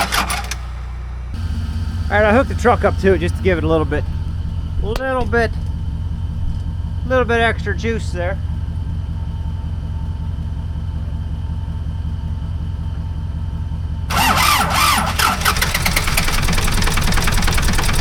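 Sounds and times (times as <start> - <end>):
diesel engine starting and knocking: 0.0 - 18.0
low steady rumble: 0.6 - 18.0.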